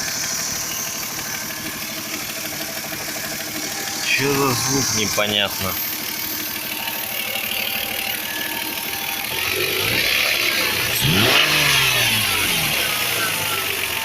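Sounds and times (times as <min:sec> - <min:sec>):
engine running with rapid knock: 0:00.0 - 0:14.0.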